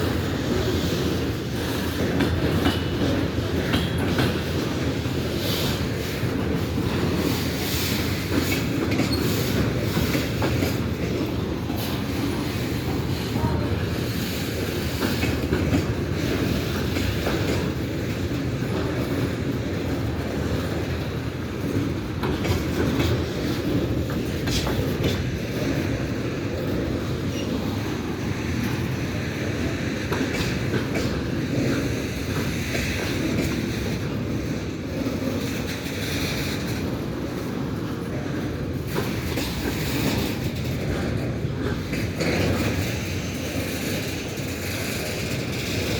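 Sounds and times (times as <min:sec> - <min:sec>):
freight train wheels rumbling: 0:00.0 - 0:45.9
wheels clacking on rail joints: 0:00.0 - 0:45.9.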